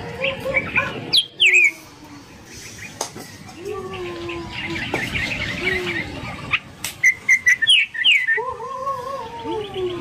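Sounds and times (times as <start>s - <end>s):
bird chirping: 0.0s - 8.6s.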